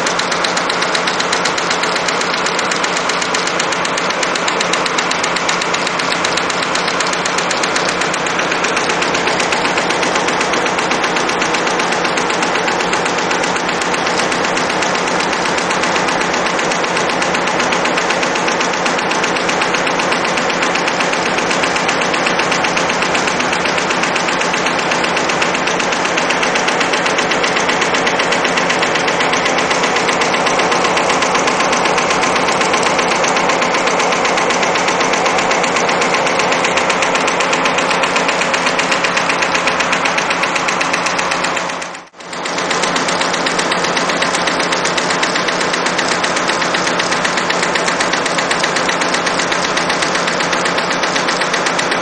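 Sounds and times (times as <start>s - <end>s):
embroidery machine clattering: 0.0s - 52.0s.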